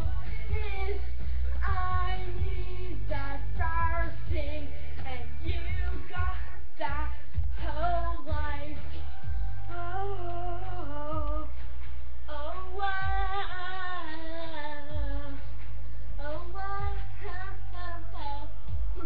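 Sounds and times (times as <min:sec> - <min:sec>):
young female voice singing: 0:00.0 - 0:11.6, 0:12.3 - 0:15.6, 0:16.2 - 0:19.0
music with bass and beat: 0:00.0 - 0:19.0.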